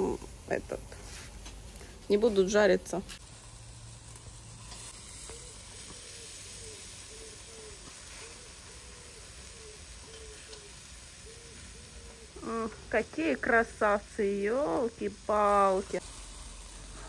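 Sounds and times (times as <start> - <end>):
meat sizzling over charcoal: 0.0 - 17.0.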